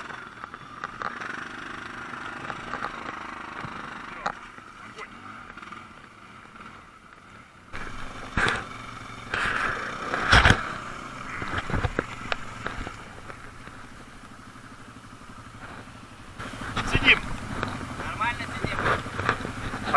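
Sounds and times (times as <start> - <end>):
quad bike engine running: 0.0 - 19.9.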